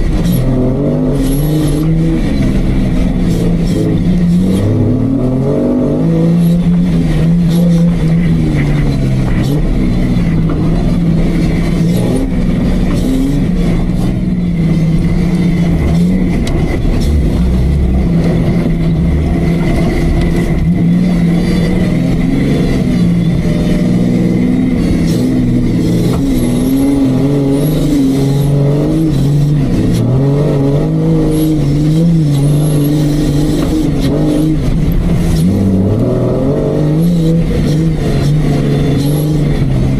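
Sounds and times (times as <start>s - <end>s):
engine running hard: 0.0s - 39.9s.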